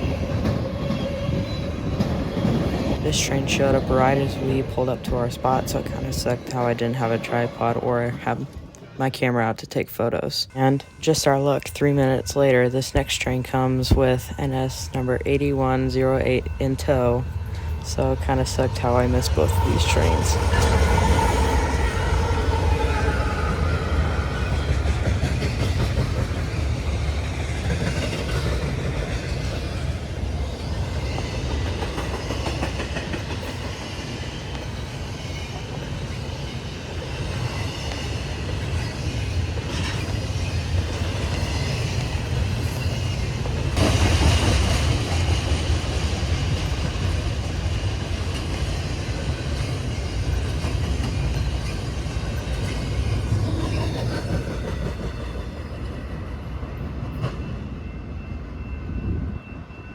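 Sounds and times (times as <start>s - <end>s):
wheel noise on rails: 0.0s - 9.0s, 11.8s - 59.9s
freight train rumbling past: 0.0s - 59.9s.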